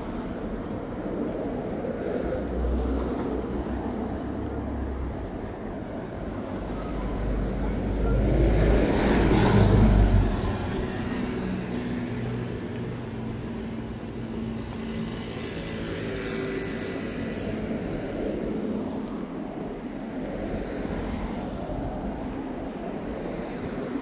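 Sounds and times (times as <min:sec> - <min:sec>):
hum of traffic engines: 0:00.0 - 0:24.0.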